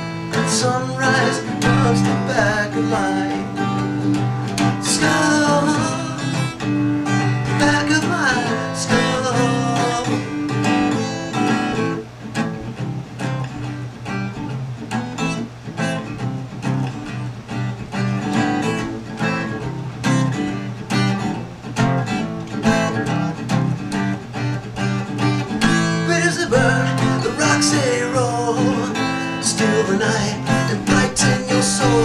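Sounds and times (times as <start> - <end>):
acoustic guitar instrumental: 0.0 - 32.0.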